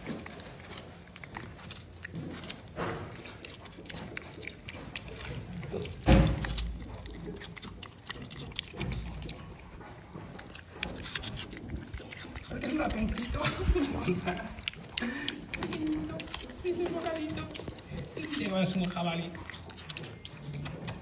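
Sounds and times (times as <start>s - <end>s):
piglet chewing and crunching apple: 0.0s - 21.0s.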